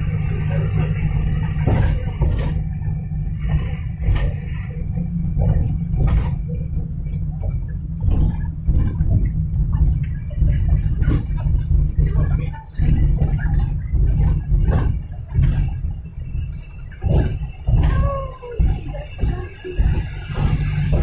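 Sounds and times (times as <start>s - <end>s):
engine and road rumble: 0.0s - 21.0s
sharp knocks and rattles: 0.6s - 21.0s.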